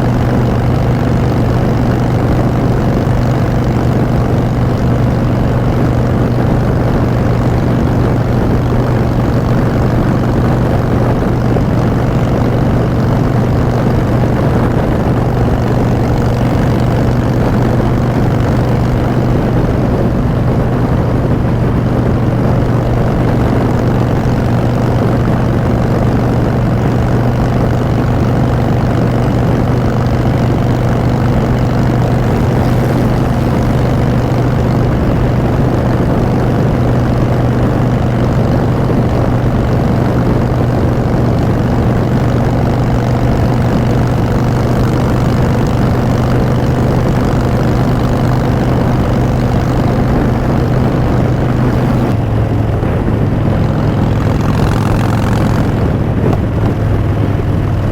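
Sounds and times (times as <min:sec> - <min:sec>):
motorcycle engine cruising drone: 0:00.0 - 0:57.9.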